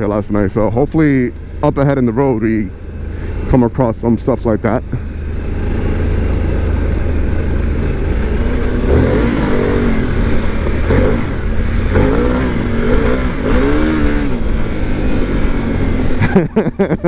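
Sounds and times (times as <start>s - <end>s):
motorcycle accelerating through gears: 0.0s - 17.0s.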